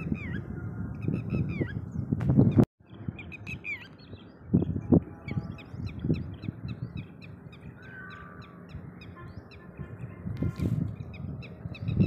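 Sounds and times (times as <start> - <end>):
birds chirping: 0.0 - 12.0
wind buffeting microphone: 0.0 - 12.0.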